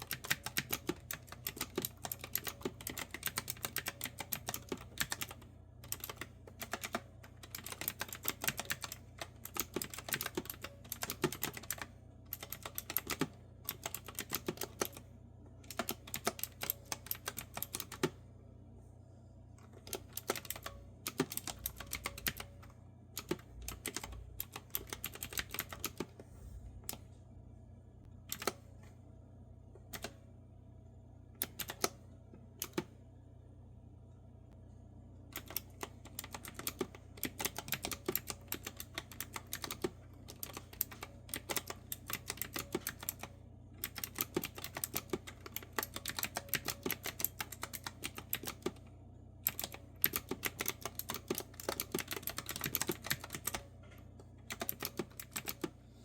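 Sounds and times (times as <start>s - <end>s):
mechanical keyboard typing: 0.0s - 18.2s, 19.8s - 22.6s, 23.2s - 26.1s, 28.3s - 28.6s, 29.9s - 30.2s, 31.4s - 32.0s, 32.6s - 32.9s, 35.4s - 53.7s, 54.4s - 55.8s.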